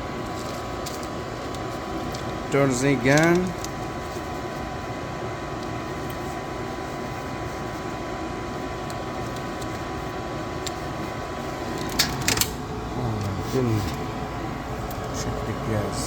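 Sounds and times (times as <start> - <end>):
furnace humming: 0.0 - 16.0.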